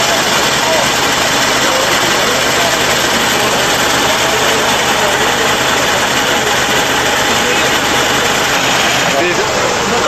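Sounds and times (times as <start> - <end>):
pump and engine droning: 0.0 - 10.0.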